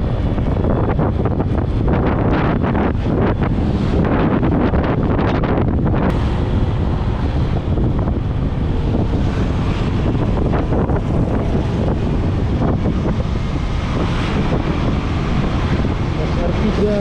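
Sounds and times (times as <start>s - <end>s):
low vehicle rumble: 0.0s - 17.0s
wind buffeting microphone: 0.0s - 17.0s.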